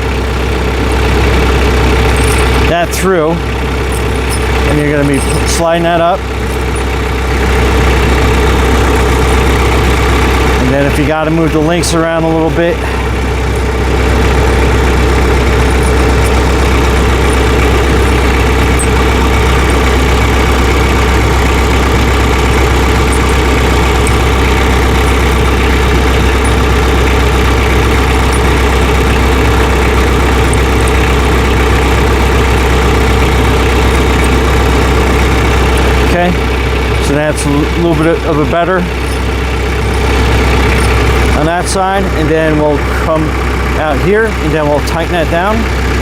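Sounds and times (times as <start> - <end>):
tractor engine idling: 0.0 - 46.0.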